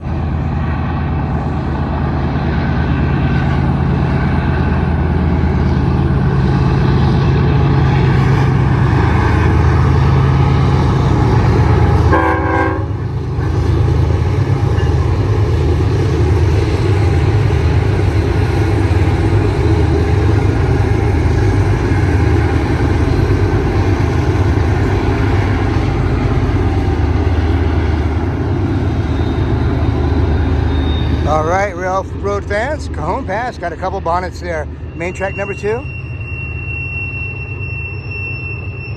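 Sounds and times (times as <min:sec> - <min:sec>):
diesel locomotive engine rumble: 0:00.0 - 0:38.9
rail noise: 0:00.0 - 0:38.9.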